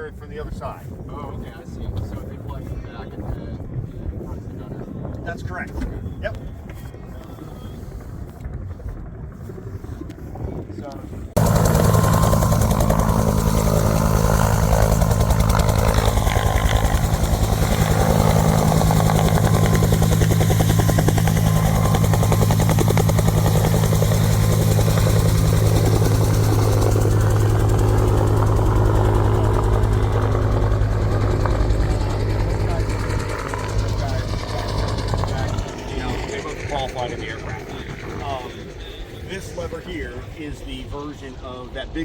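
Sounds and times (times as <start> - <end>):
helicopter engine and rotor drone: 0.0 - 42.0.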